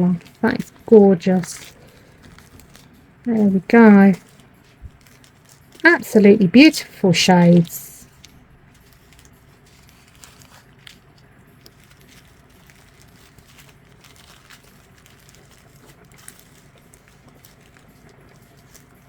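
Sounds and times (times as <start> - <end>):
low room hum: 0.0 - 19.0
plastic packets crinkling: 0.0 - 19.0.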